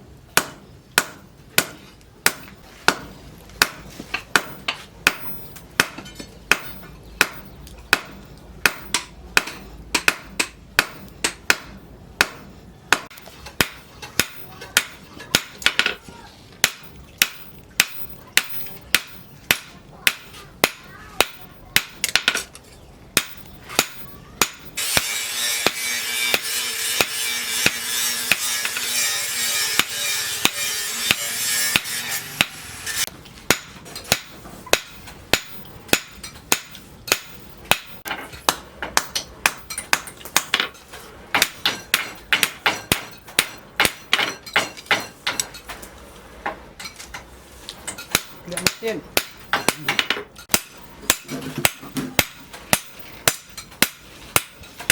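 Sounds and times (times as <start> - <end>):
hammer striking steel on anvil: 0.4 - 16.0, 16.6 - 22.5, 23.2 - 45.6, 47.9 - 54.9.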